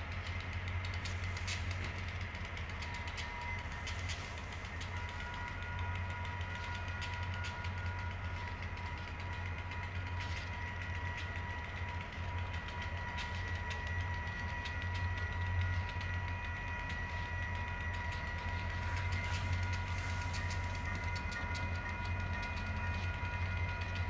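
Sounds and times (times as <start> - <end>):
diesel train rumble: 0.0 - 24.0.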